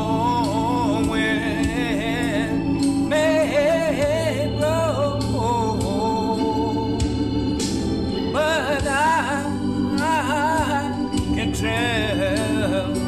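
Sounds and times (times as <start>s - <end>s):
organ chords: 0.0s - 13.0s
person singing with vibrato: 0.0s - 13.0s.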